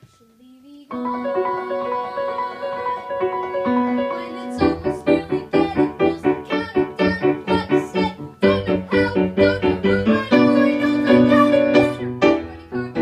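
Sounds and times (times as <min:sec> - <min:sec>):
piano chords: 0:00.9 - 0:13.0.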